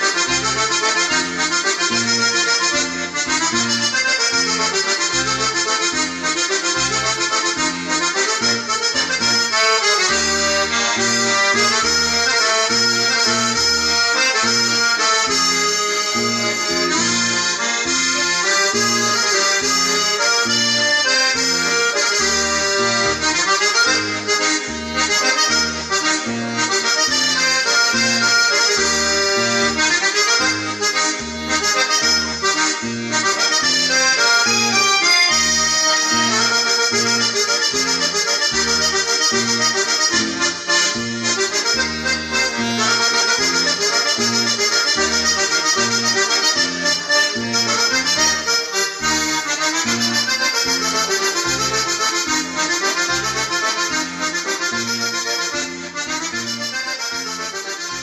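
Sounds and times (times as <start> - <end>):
accordion playing a waltz: 0.0 - 58.0.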